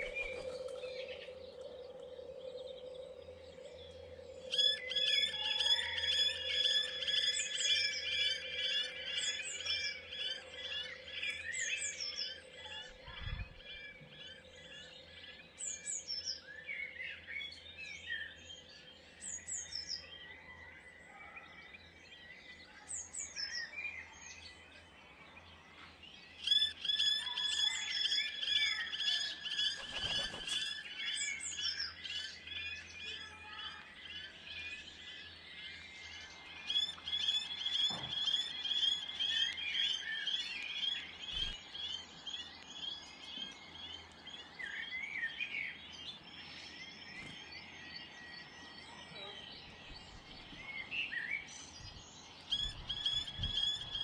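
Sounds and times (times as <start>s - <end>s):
birds chirping: 0.0s - 20.7s, 23.2s - 54.0s.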